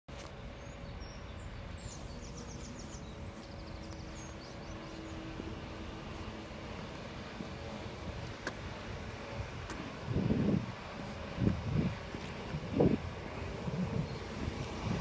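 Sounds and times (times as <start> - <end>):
diesel engine rumbling: 0.1 - 15.0.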